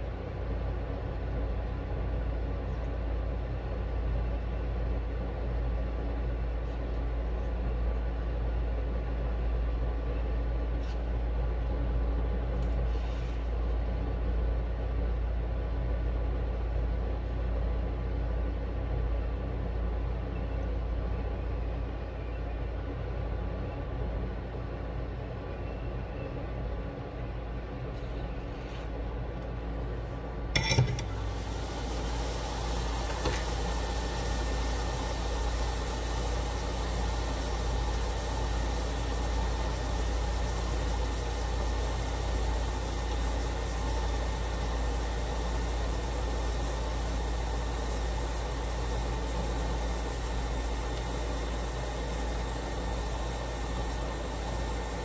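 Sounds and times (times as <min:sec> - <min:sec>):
faint hum: 0:00.0 - 0:55.0.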